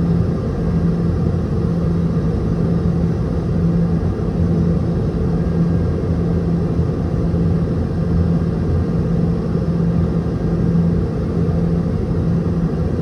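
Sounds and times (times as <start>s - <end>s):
jet engines droning in a cabin: 0.0s - 13.0s.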